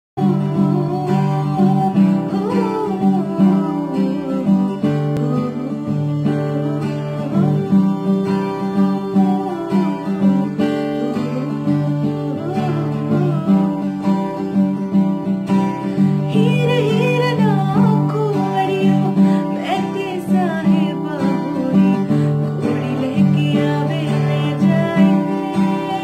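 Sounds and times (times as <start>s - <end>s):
woman singing slow melody: 0.2s - 14.7s, 16.2s - 26.0s
acoustic guitar strumming chords: 0.2s - 26.0s.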